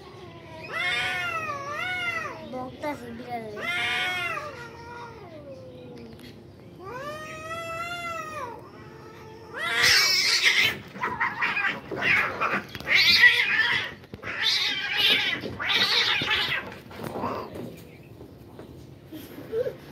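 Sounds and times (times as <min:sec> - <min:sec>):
cats yowling and screeching: 0:00.0 - 0:02.5, 0:03.5 - 0:17.6.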